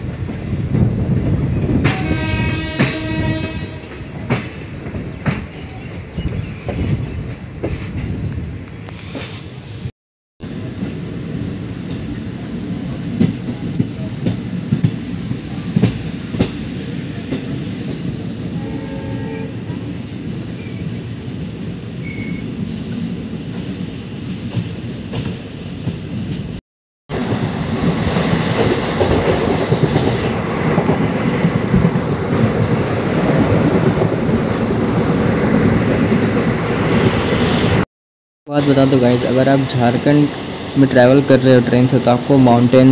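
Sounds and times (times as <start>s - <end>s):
rush of wind: 0.0s - 18.6s, 19.5s - 37.8s
train wheels rumbling on rails: 0.0s - 37.8s, 38.6s - 42.9s.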